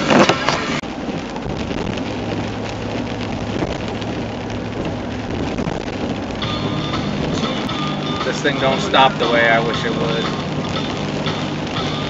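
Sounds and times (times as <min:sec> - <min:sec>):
low engine hum: 0:00.0 - 0:12.0
rain and road spray hiss: 0:00.0 - 0:12.0.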